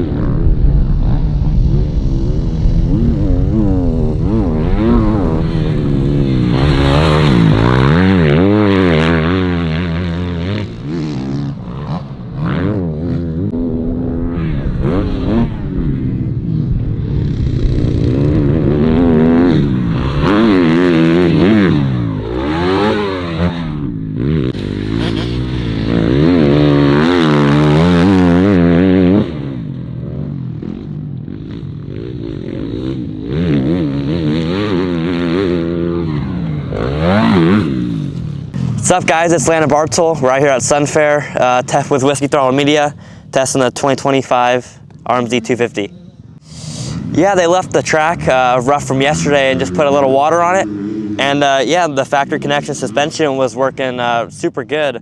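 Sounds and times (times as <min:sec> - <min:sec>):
motorcycle engine revving: 0:00.0 - 0:54.2.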